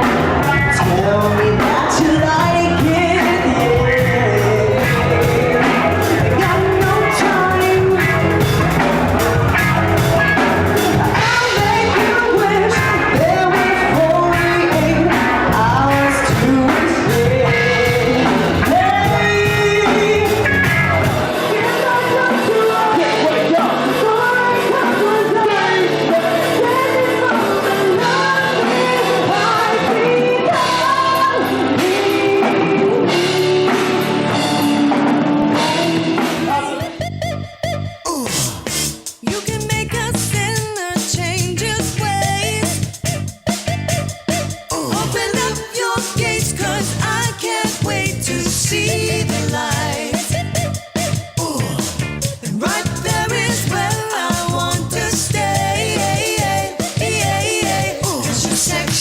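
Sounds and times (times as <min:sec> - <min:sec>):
deep bass: 0:00.0 - 0:24.6, 0:30.8 - 0:59.0
drums: 0:00.0 - 0:59.0
lead singer singing: 0:00.0 - 0:59.0
rock band playing: 0:00.0 - 0:59.0.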